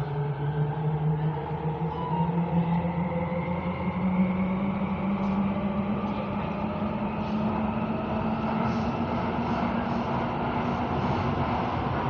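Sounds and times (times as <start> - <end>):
metro train rumbling in tunnel: 0.0 - 12.0.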